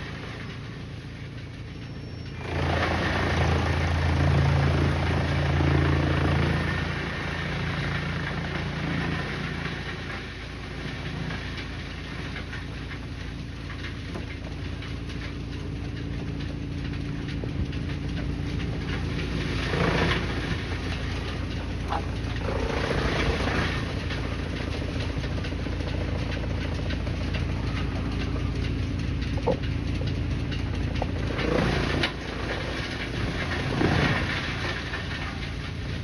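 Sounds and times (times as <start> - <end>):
wood chipper rumbling and grinding: 0.0 - 36.0.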